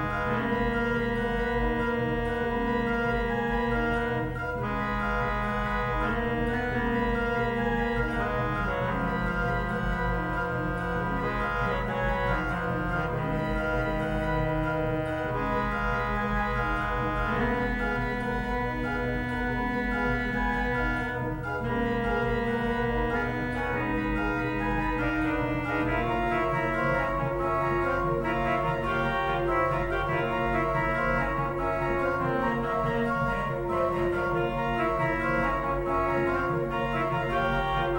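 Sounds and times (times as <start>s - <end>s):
fast pulsing organ bass: 0.0s - 37.9s
pipe organ chords: 0.0s - 37.9s.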